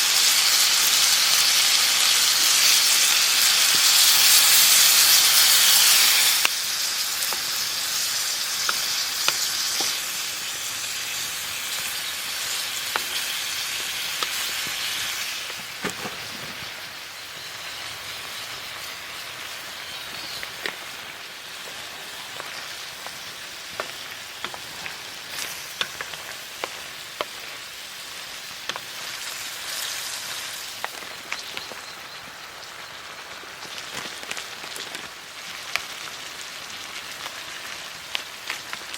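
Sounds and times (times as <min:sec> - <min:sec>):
campfire pops and crackles: 0:00.0 - 0:38.9
food sizzling in a pan: 0:00.0 - 0:38.9.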